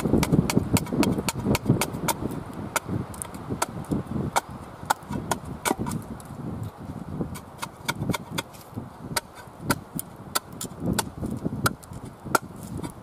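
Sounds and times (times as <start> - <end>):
shovel blade chopping wood: 0.0 - 6.0, 7.3 - 13.0.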